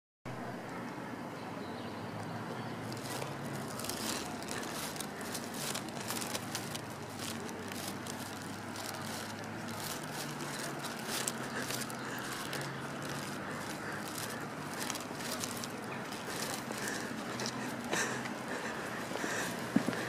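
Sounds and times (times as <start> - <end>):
footsteps crunching dry leaves: 2.8 - 20.0.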